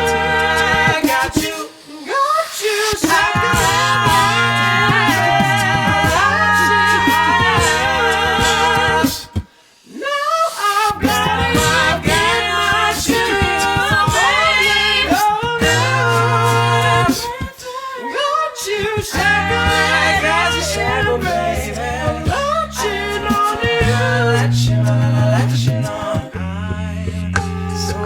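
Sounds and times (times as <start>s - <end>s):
sung bass line: 0.0s - 1.3s, 3.1s - 9.4s, 11.0s - 17.4s, 19.1s - 28.0s
a cappella group singing harmony: 0.0s - 28.0s.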